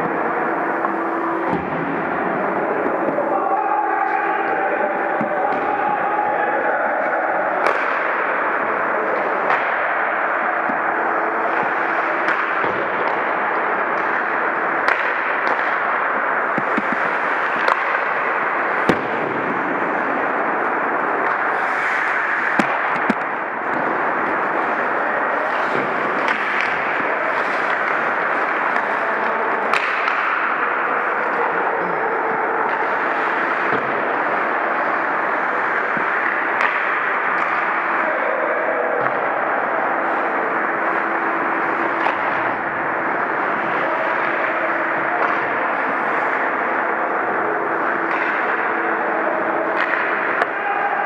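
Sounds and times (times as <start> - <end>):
arena crowd noise: 0.0 - 51.0
hockey sticks hitting puck: 0.0 - 51.0.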